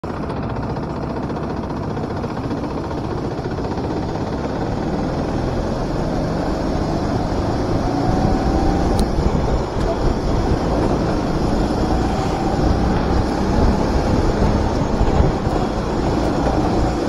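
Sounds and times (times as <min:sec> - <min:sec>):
kart engine running: 0:00.0 - 0:17.0.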